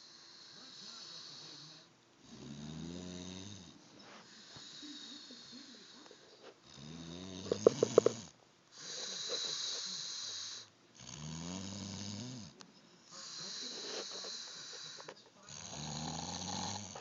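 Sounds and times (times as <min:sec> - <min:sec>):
breathy hiss: 0:00.0 - 0:17.0
rattling snore: 0:00.0 - 0:17.0.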